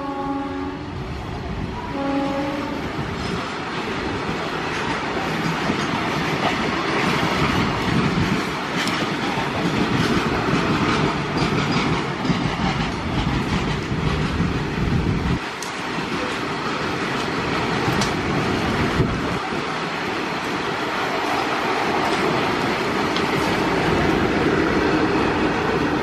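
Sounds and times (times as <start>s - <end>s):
train wheels rumbling on rail: 0.0s - 26.0s
wheels clicking over rail joints: 3.2s - 24.2s.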